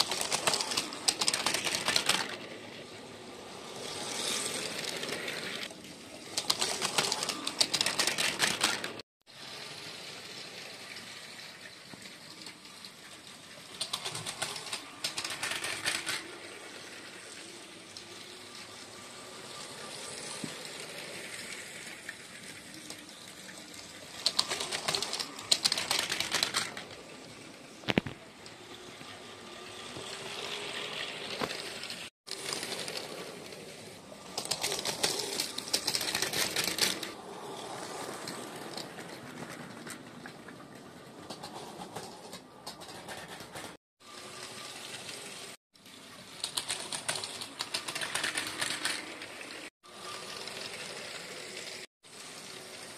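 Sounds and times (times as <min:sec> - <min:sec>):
toy train wheels clattering: 0:00.0 - 0:52.9.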